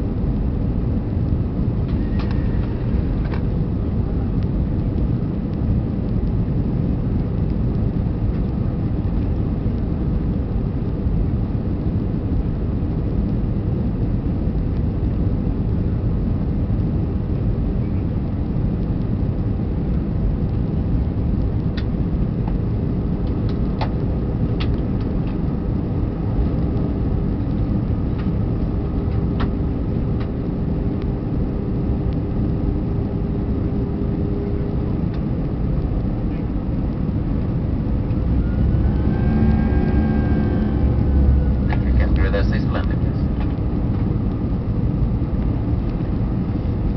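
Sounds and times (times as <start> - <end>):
airplane engines rumbling: 0.0 - 46.9
faint steady hum: 0.0 - 46.9.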